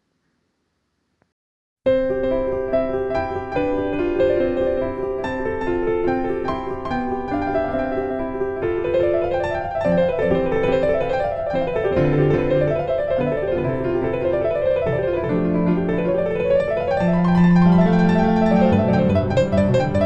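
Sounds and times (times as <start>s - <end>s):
piano music: 1.9s - 20.0s.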